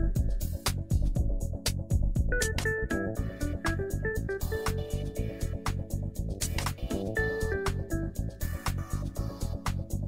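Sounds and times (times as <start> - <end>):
drum beat with stepping melody: 0.0 - 10.0.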